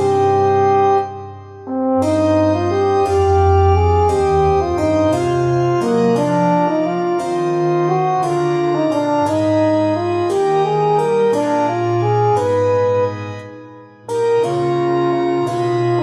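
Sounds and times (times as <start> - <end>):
keyboard classical piece: 0.0 - 16.0.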